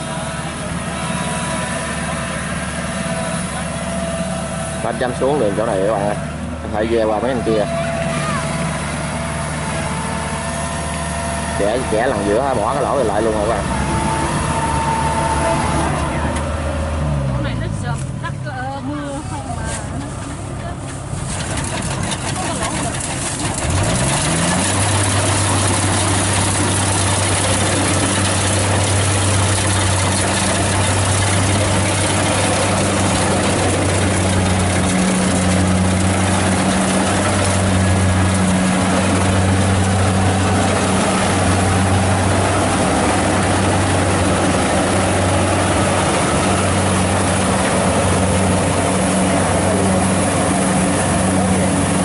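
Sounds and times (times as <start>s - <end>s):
diesel engine revving and humming: 0.0s - 52.0s
machinery whirring: 0.0s - 52.0s.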